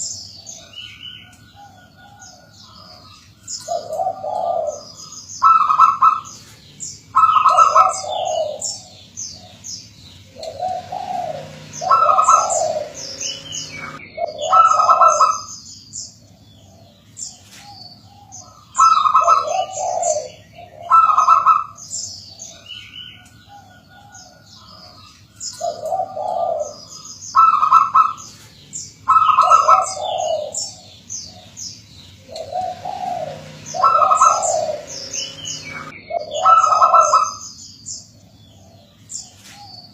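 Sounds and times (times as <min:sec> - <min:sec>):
dove cooing: 0:00.0 - 0:37.6, 0:38.2 - 0:39.9
small birds chirping: 0:00.0 - 0:39.9.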